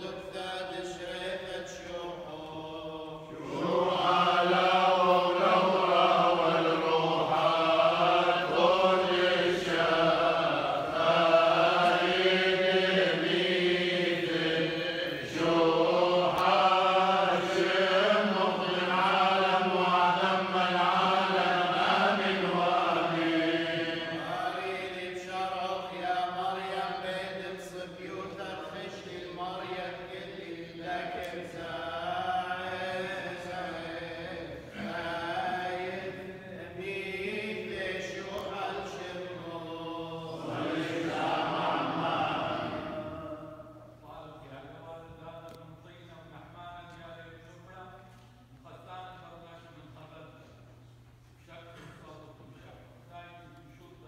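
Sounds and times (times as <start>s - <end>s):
men chanting prayers: 0.0s - 54.0s.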